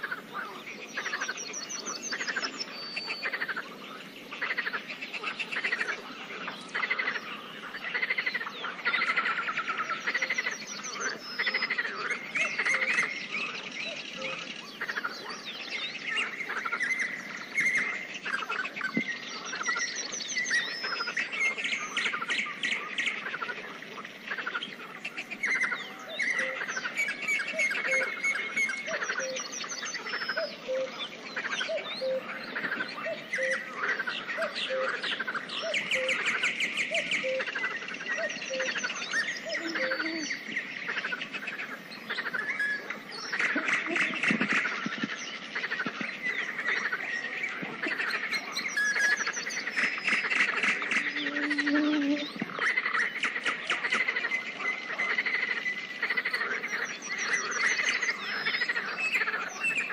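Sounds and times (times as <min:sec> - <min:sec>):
birds singing and calling: 0:00.0 - 0:59.9.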